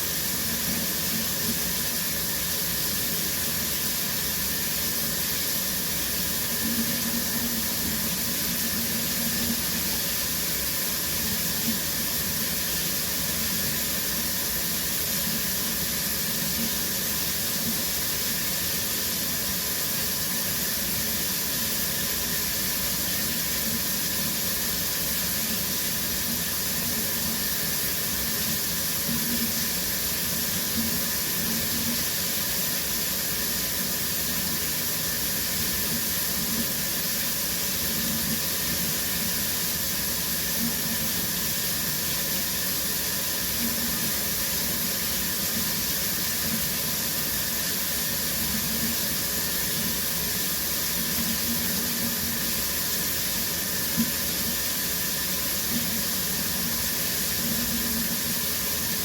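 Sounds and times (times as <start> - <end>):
shower spray hissing: 0.0 - 59.0.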